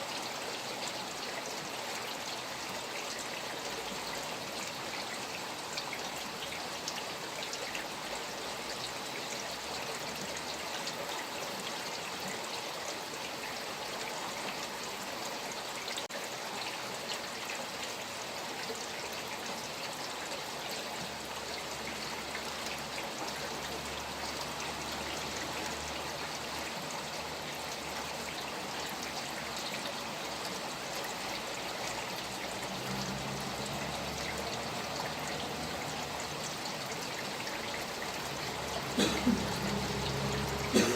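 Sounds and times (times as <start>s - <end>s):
steady rain falling: 0.0s - 40.9s
water flowing and trickling: 0.0s - 40.9s.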